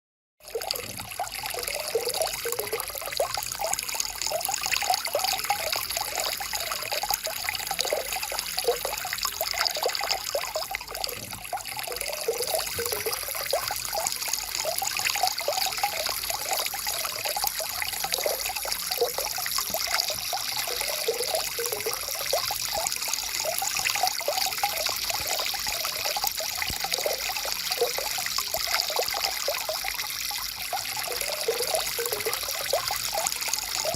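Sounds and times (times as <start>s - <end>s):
stream bubbling over stones: 0.4s - 33.9s.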